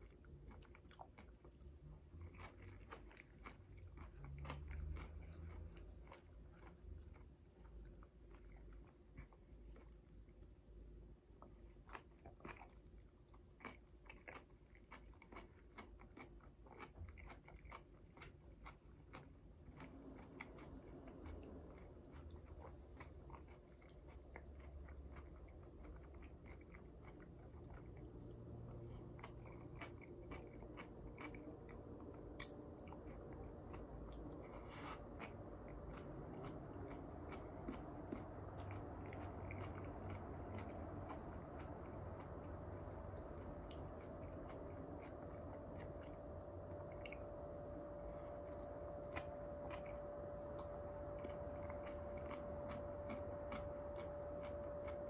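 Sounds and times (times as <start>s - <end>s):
wet chewing: 0.0s - 10.5s, 11.4s - 55.0s
steady background noise: 0.0s - 55.0s.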